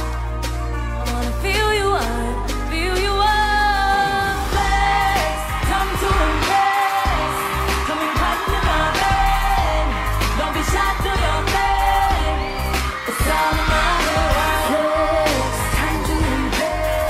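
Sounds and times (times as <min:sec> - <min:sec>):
pop beat with heavy bass: 0:00.0 - 0:17.0
women singing into microphones: 0:01.0 - 0:17.0.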